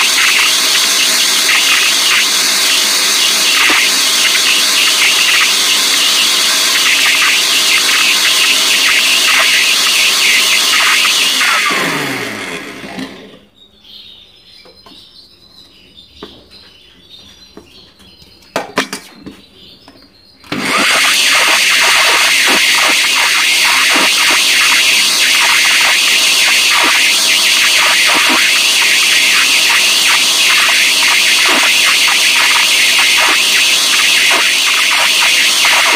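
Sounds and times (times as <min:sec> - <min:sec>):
electric grinder milling seeds: 0:00.0 - 0:13.4, 0:20.5 - 0:35.9.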